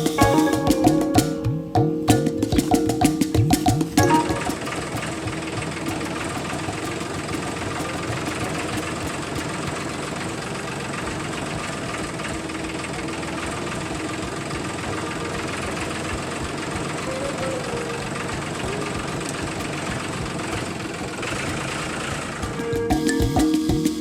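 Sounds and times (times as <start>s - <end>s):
small motor clattering: 4.5s - 24.0s.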